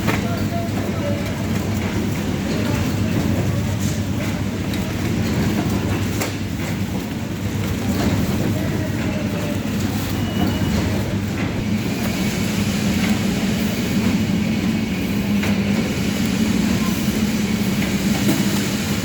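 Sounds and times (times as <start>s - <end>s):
machine humming and rattling: 0.0s - 19.0s.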